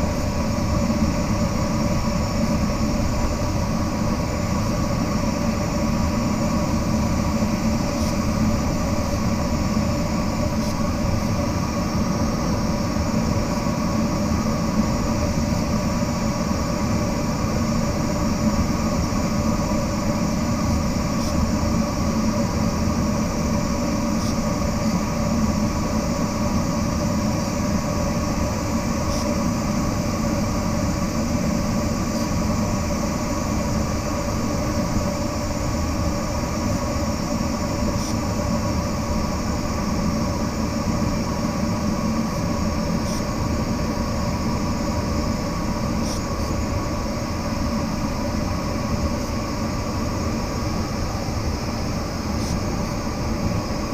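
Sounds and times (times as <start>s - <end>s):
faint steady hum: 0.0s - 53.9s
rushing airflow in cockpit: 0.0s - 53.9s.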